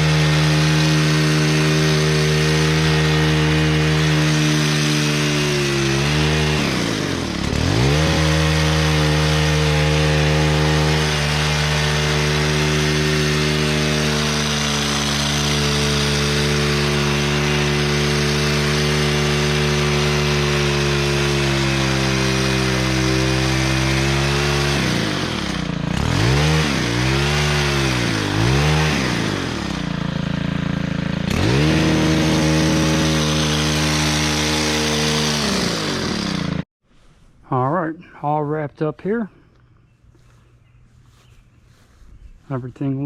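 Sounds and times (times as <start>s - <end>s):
two-stroke trimmer engine running: 0.0s - 36.6s.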